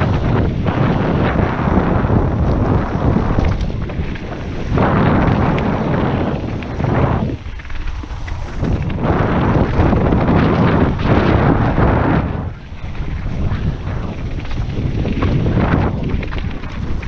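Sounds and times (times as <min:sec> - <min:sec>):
bike clattering over bumps: 0:00.0 - 0:17.0
bike tyres rolling on stones: 0:00.0 - 0:17.0
wind buffeting microphone: 0:00.0 - 0:17.0.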